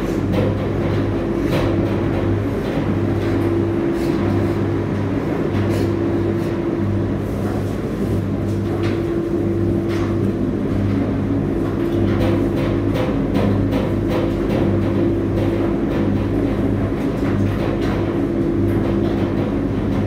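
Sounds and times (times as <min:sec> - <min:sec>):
washing machine drum humming: 0:00.0 - 0:20.0.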